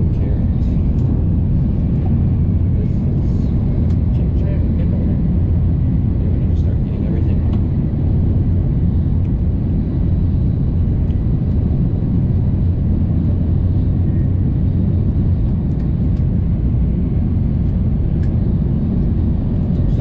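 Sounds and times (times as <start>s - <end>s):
train rumble from inside: 0.0s - 20.0s.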